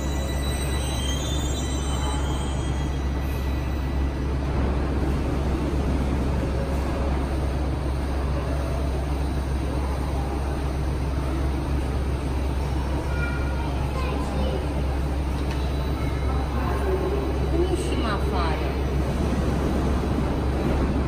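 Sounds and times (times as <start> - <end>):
metro train rumbling: 0.0 - 21.0.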